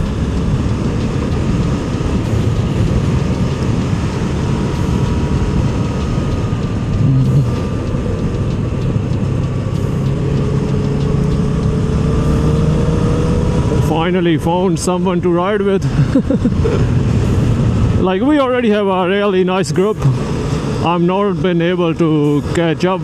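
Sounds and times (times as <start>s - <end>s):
heavy wind noise: 0.0s - 23.0s
motorcycle engine running: 0.0s - 23.0s
road noise: 0.0s - 23.0s.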